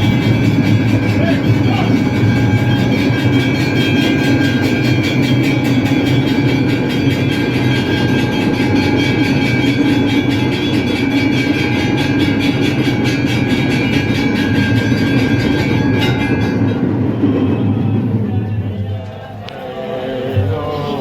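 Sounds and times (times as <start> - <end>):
steady ringing tones: 0.0 - 21.0
temple bells and percussion clanging: 0.0 - 21.0.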